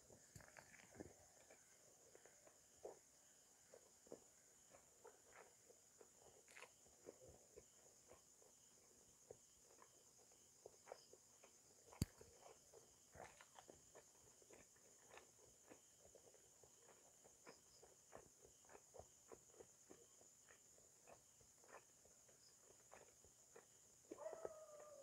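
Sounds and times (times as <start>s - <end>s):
night insects chirring: 0.0s - 25.0s.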